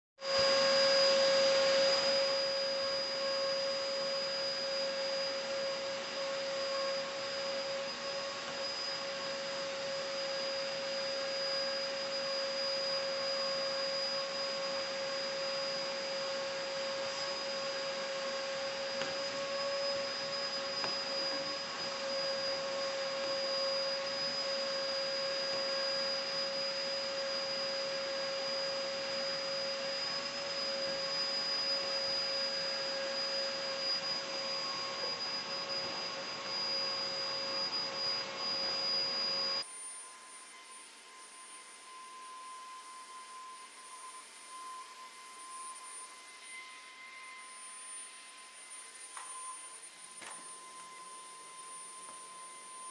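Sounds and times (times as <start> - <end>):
handheld vacuum cleaner whining: 0.2 - 52.9.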